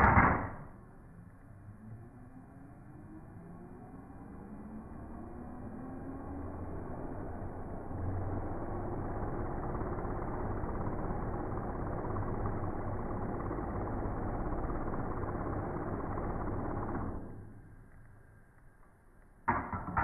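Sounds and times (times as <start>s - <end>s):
drone propellers spinning slowed down: 0.0s - 20.0s.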